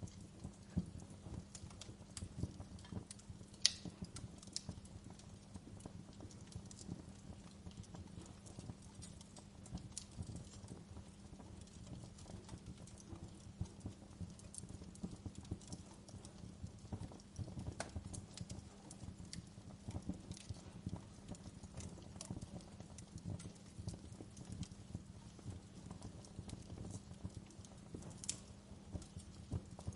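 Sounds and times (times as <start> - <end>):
flames rumbling: 0.0 - 29.9
wood fire popping and snapping: 0.0 - 29.9.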